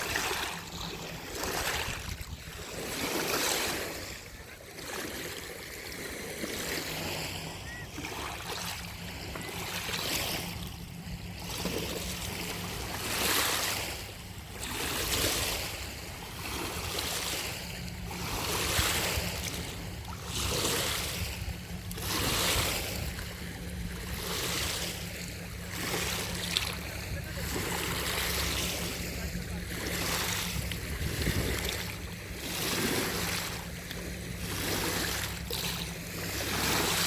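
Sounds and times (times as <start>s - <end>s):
waves washing on rocky shore: 0.0s - 37.0s.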